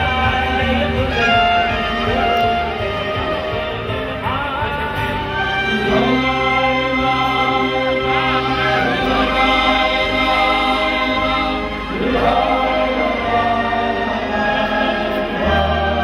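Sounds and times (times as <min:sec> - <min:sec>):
choral singing: 0:00.0 - 0:16.0.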